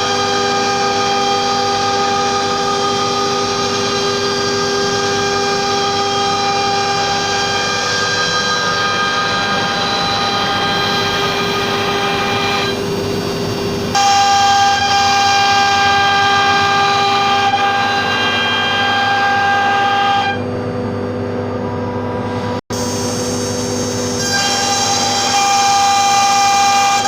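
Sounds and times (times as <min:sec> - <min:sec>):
router spindle whine cutting wood: 0:00.0 - 0:20.5, 0:22.8 - 0:27.0.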